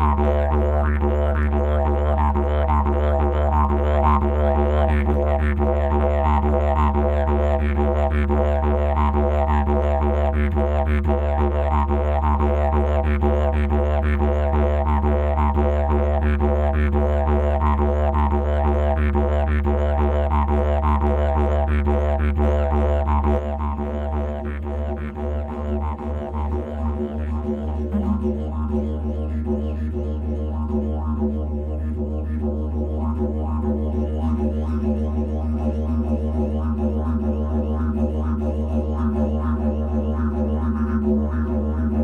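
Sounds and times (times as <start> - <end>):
didgeridoo drone: 0.0 - 42.0.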